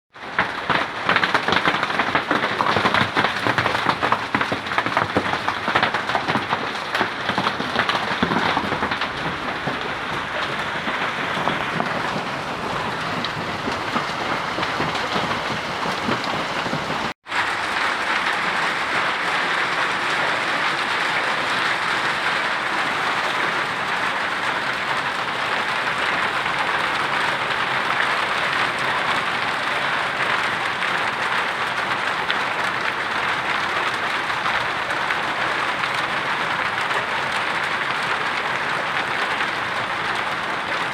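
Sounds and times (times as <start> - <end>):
hailstones clattering: 0.2 - 40.9
heavy rain downpour: 0.2 - 40.9.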